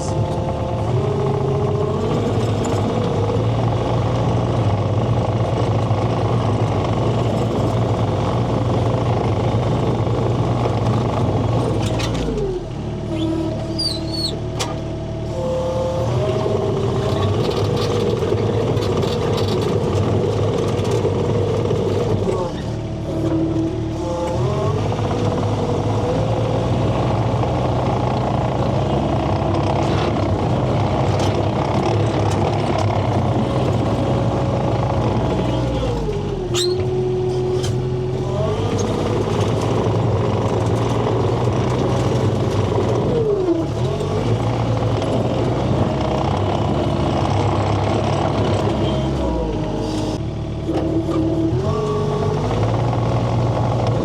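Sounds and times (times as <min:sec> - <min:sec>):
diesel engine at high throttle: 0:00.0 - 0:54.0.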